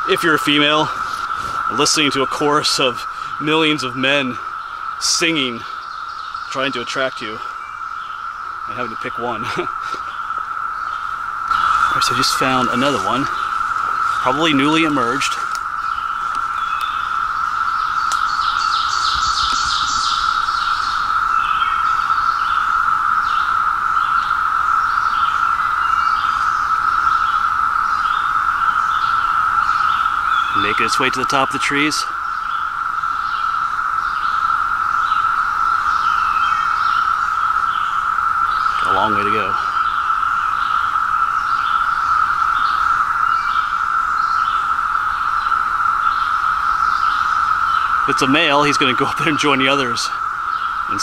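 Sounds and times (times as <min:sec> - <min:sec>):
cicadas droning: 0:00.0 - 0:51.0.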